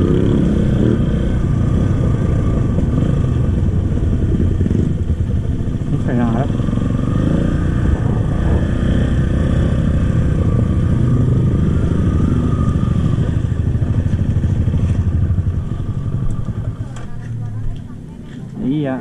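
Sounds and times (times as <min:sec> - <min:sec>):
trail bike engine under throttle: 0:00.0 - 0:17.4.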